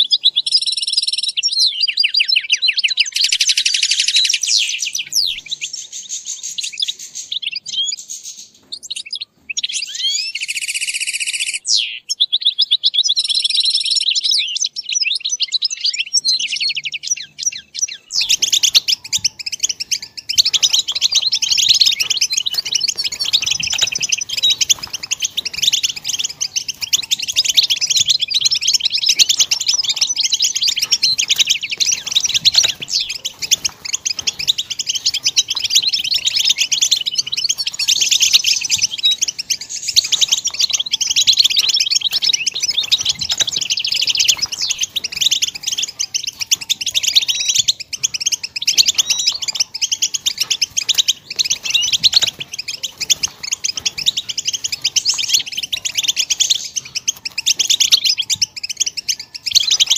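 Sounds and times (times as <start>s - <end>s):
goldfinch twittering song: 0.0s - 59.9s.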